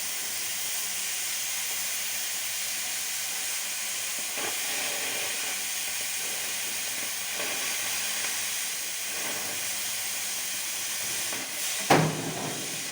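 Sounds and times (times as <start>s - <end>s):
gas cutting torch hissing: 0.0s - 12.9s.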